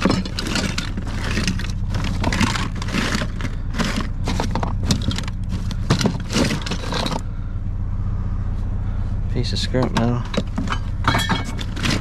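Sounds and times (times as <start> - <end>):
toy cars clattering and scraping: 0.0 - 7.4, 9.7 - 12.0
low hum: 0.0 - 12.0.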